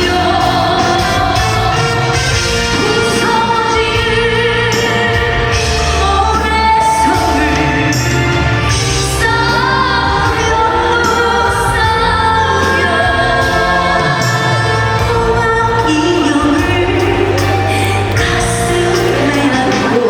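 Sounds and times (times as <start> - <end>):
instrumental accompaniment: 0.0 - 20.0
steady bass line: 0.0 - 20.0
woman singing: 0.0 - 20.0.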